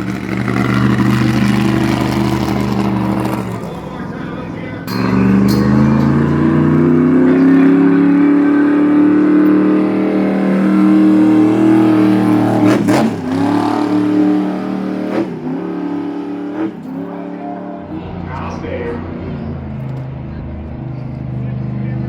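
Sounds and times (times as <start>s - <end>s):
vehicle engine revving hard: 0.0s - 22.0s.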